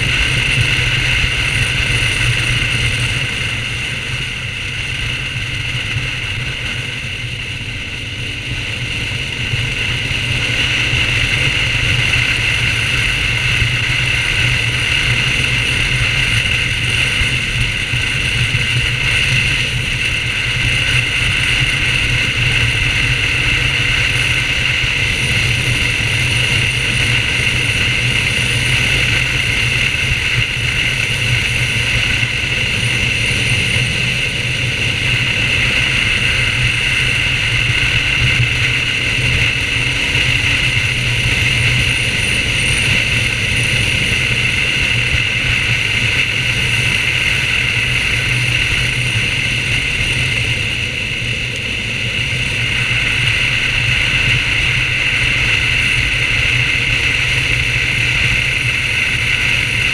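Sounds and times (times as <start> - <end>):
road noise: 0.0 - 59.9
wind noise: 0.0 - 59.9.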